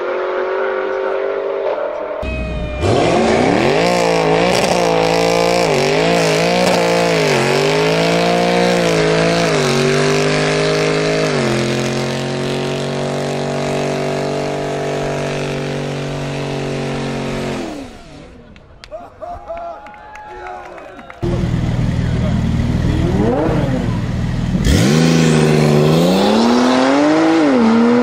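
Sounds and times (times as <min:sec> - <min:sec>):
car engine at high revs: 0:00.0 - 0:18.4, 0:21.2 - 0:28.0.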